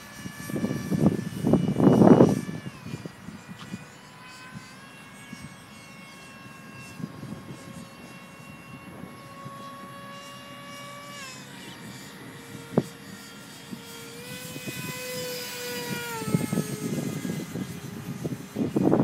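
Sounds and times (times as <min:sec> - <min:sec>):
electric ducted fan whining: 0:00.0 - 0:19.0.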